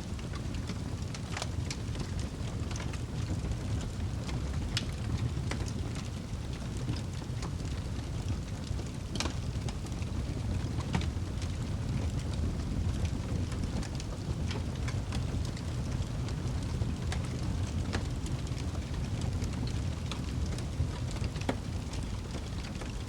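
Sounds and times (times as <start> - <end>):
fire crackling and popping: 0.0 - 23.0
fire flames rumbling: 0.0 - 23.0.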